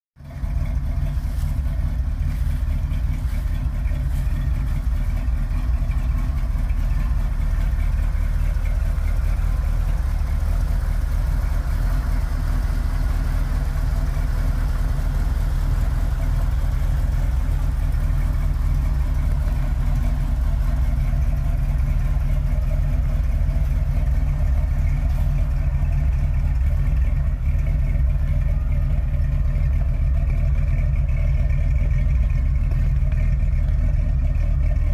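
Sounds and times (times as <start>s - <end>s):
truck engine idling: 0.2s - 34.9s.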